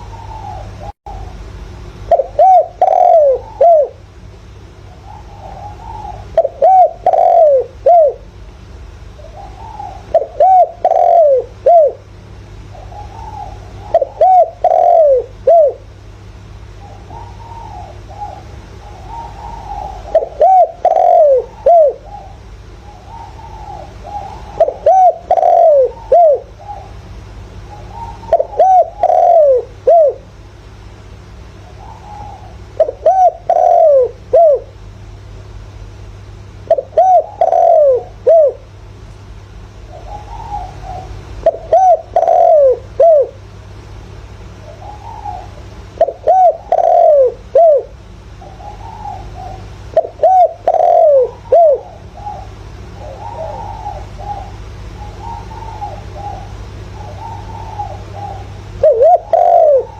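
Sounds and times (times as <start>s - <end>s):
dove cooing: 0.0s - 4.1s, 4.8s - 8.4s, 9.0s - 30.4s, 31.6s - 34.8s, 36.6s - 38.8s, 39.6s - 43.6s, 44.5s - 59.9s
steady low hum: 0.0s - 59.9s.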